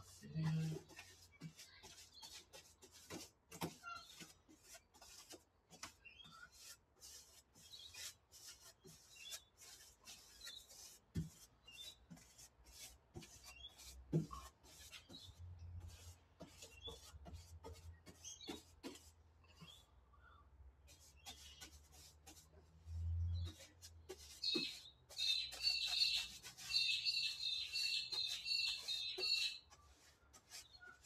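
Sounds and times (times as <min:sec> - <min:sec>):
paintbrush scrubbing on metal: 0:00.0 - 0:19.9, 0:20.9 - 0:31.0.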